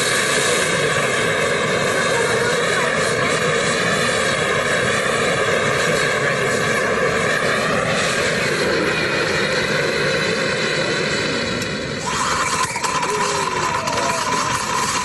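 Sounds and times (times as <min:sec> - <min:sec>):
blowtorch flame roaring: 0:00.0 - 0:15.0.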